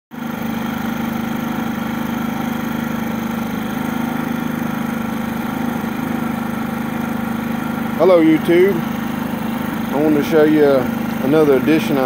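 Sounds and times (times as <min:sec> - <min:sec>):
generator engine humming: 0:00.1 - 0:12.0.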